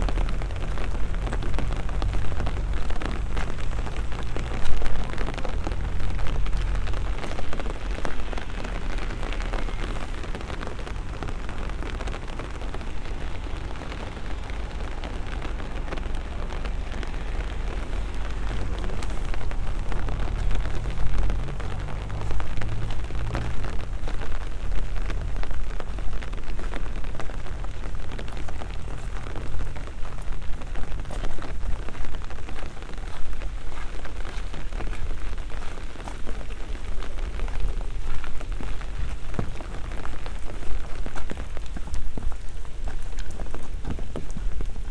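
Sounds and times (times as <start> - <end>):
low rumble: 0.0 - 41.7
rain drops ticking: 0.0 - 44.9.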